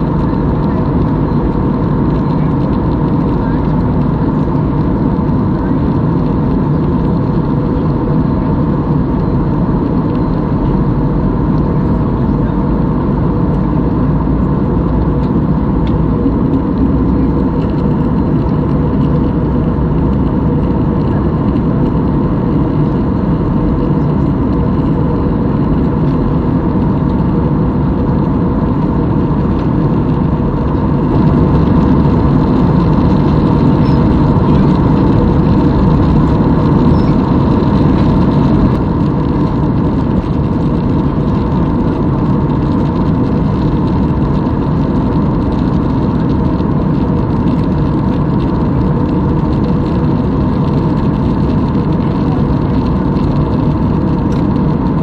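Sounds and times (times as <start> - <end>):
jet airliner cabin drone: 0.0 - 55.0.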